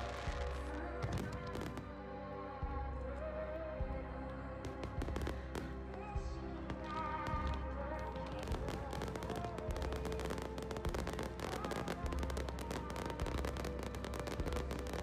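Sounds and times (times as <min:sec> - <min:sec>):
fireworks crackling: 0:00.0 - 0:02.0, 0:04.7 - 0:15.0
music playing: 0:00.0 - 0:15.0.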